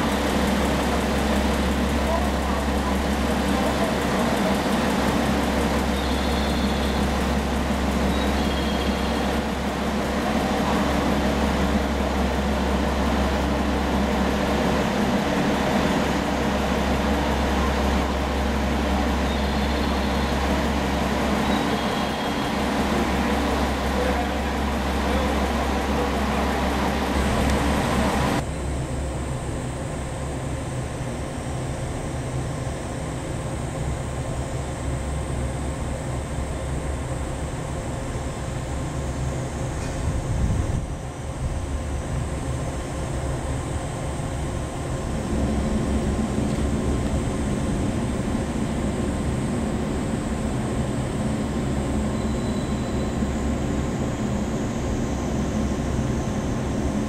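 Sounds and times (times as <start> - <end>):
idling trains humming: 0.0 - 57.0.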